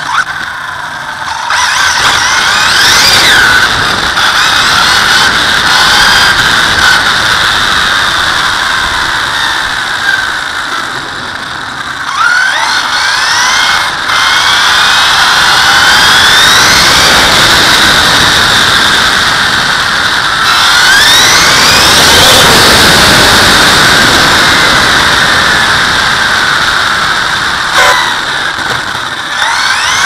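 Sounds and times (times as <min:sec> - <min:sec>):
electric motor whining: 0:00.0 - 0:30.0
tyres rushing on asphalt: 0:00.0 - 0:30.0
wind on camera: 0:01.5 - 0:30.0.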